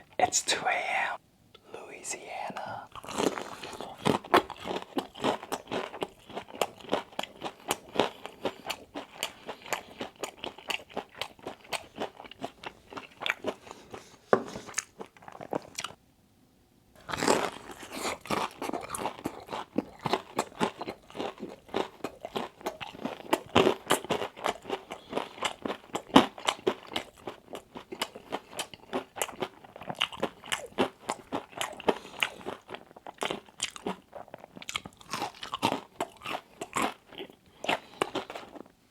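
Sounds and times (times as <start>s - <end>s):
person chewing crispy food: 2.2s - 16.0s, 17.0s - 38.8s.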